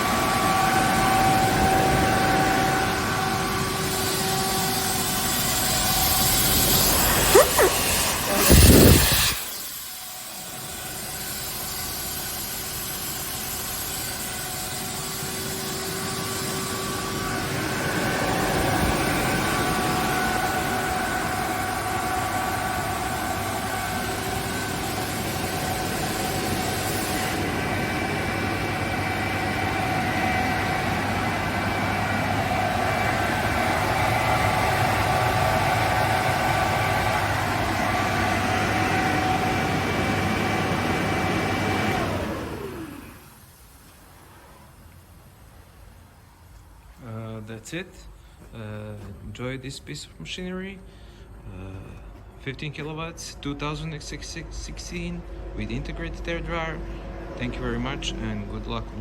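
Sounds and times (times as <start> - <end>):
air compressor running: 0.0 - 44.8, 50.8 - 59.0.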